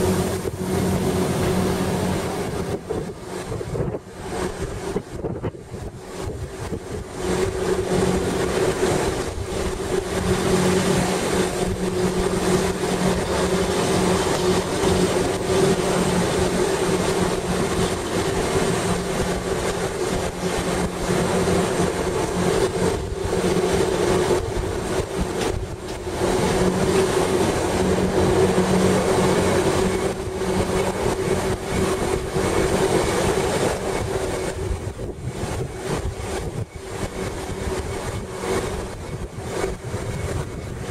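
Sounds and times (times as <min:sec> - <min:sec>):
train drive hum: 0:00.0 - 0:40.9
train wheels running noise: 0:00.0 - 0:40.9.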